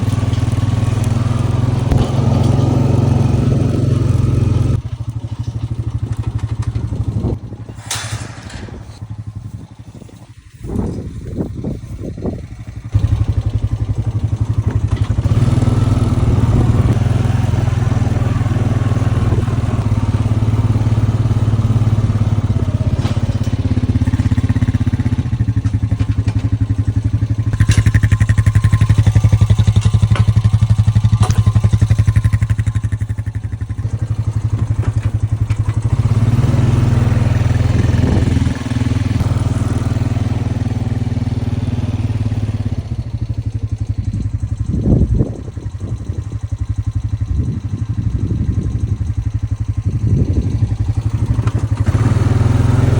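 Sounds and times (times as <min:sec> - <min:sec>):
small vehicle engine running: 0:00.0 - 0:52.9.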